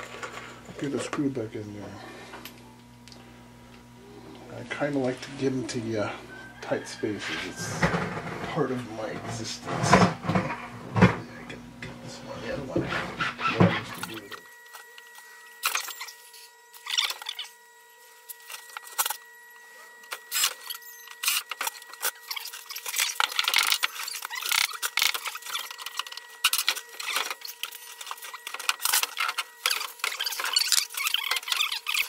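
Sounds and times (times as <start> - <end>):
faint steady whine: 0.0 - 32.0.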